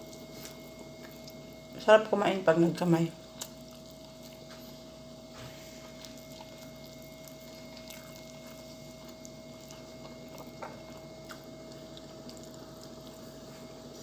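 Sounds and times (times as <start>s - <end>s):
chewing and wet mouth sounds: 0.0s - 1.8s, 3.1s - 14.0s.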